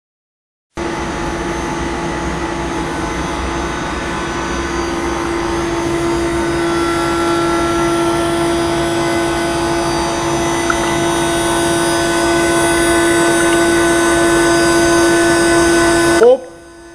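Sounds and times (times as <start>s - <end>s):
machine hum with whines: 0.8s - 16.9s.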